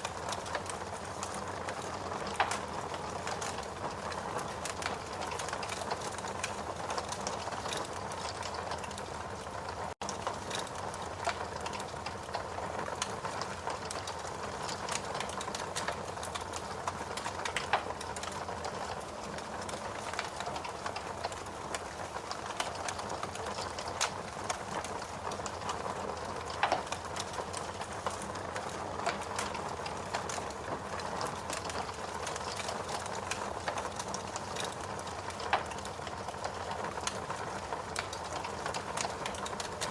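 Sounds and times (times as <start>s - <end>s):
steady rain hiss: 0.0s - 39.9s
wood fire crackling and popping: 0.0s - 39.9s.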